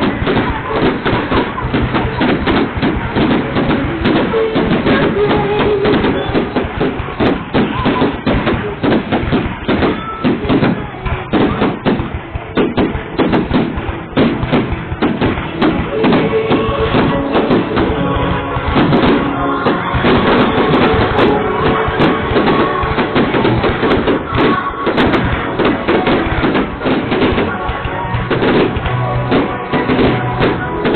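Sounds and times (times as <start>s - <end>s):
loud music with drum beat: 0.0s - 30.9s.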